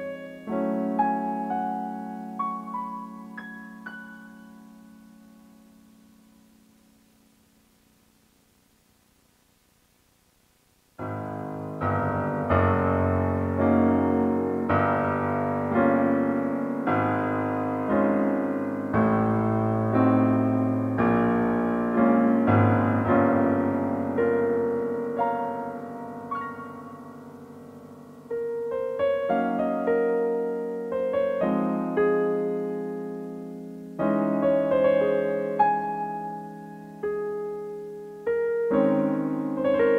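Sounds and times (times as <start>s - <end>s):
slow solo piano music: 0.0s - 6.6s, 11.0s - 39.9s.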